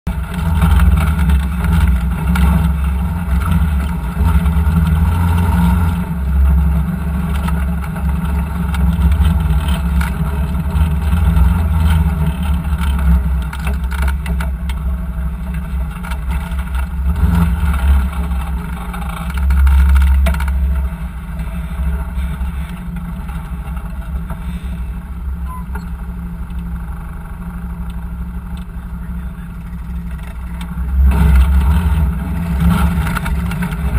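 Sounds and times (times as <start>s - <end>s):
utility vehicle engine running: 0.1s - 33.9s.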